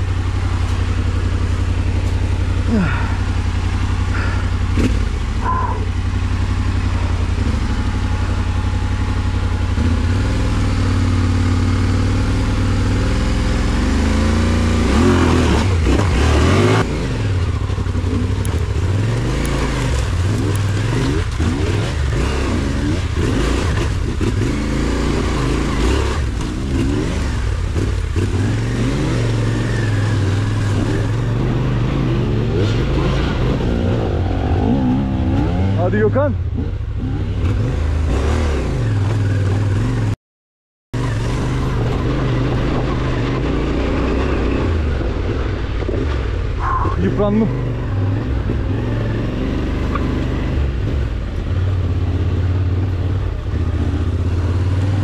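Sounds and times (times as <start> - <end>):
motorcycle engine revving: 0.0 - 40.2, 41.0 - 55.0.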